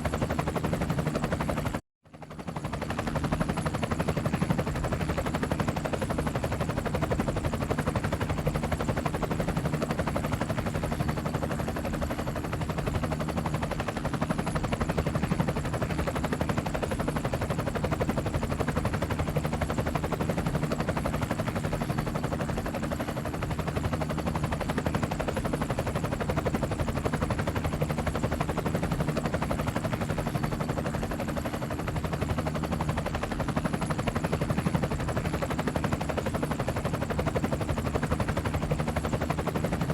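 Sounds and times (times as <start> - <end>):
helicopter rotor chopping: 0.0 - 1.8, 2.4 - 39.9.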